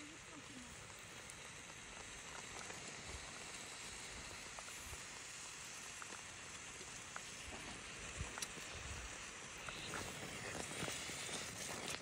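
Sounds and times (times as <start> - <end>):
fire crackles: 0.0 - 12.0
fire sizzling hiss: 0.0 - 12.0.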